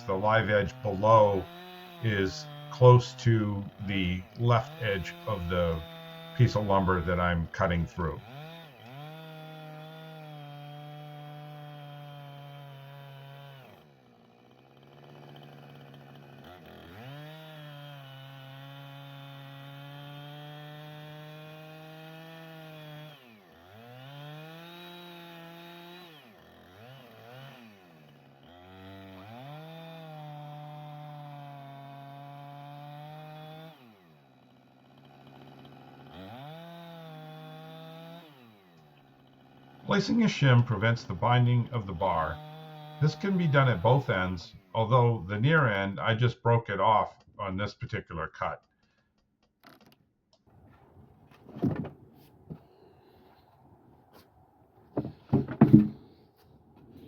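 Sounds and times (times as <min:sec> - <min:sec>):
chainsaw milling log: 0:00.0 - 0:46.1, 0:48.5 - 0:57.0.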